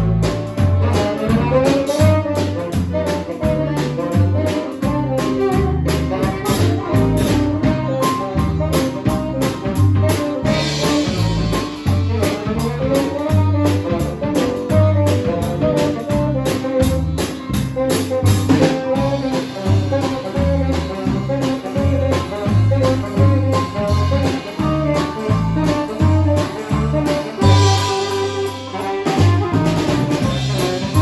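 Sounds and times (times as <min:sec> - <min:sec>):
accordion: 0:00.0 - 0:31.0
drum kit: 0:00.0 - 0:31.0
electric guitar: 0:00.0 - 0:31.0
saxophone: 0:00.0 - 0:31.0
upright double bass: 0:00.0 - 0:31.0.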